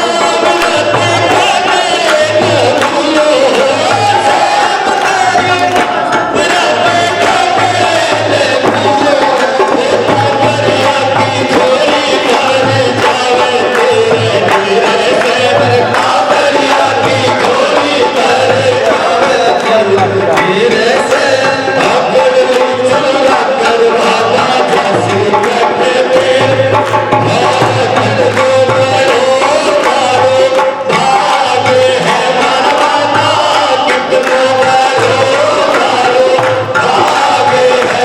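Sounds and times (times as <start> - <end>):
devotional music with drum beat: 0.0 - 38.0.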